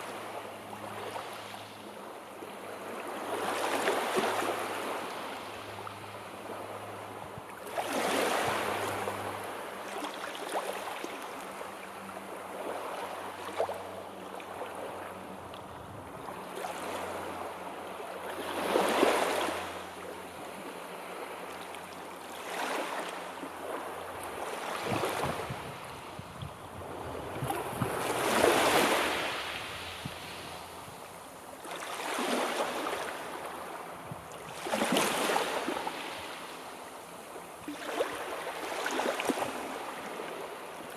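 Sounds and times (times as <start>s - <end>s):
sea waves breaking: 2.5s - 15.5s, 16.1s - 40.9s.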